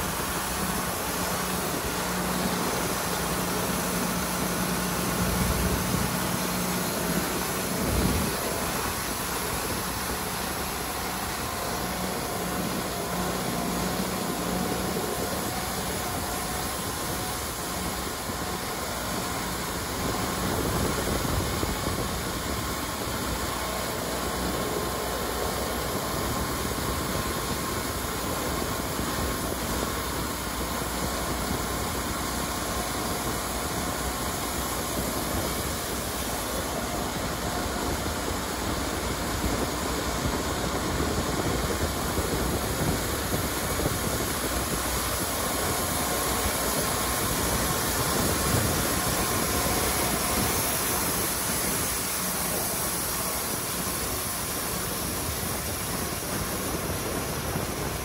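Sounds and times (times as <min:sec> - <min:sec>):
sawmill engine running: 0:00.0 - 0:58.0.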